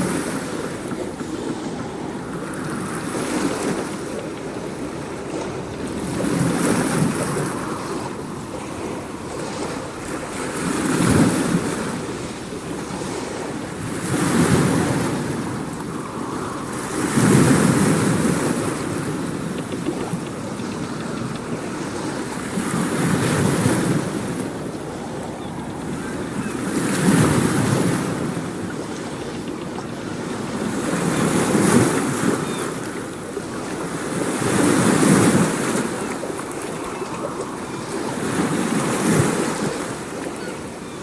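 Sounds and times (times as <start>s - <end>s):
waves washing in: 0.0s - 41.0s.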